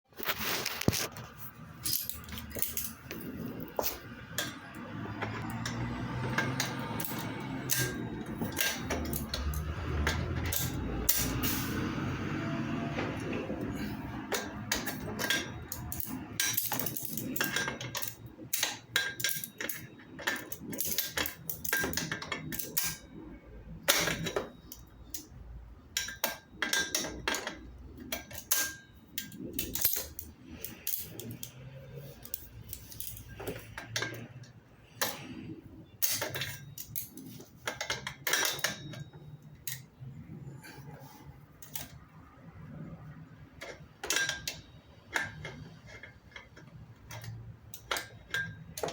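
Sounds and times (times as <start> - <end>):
metal tools clinking: 0.2 - 25.3, 26.0 - 42.0, 43.6 - 48.9.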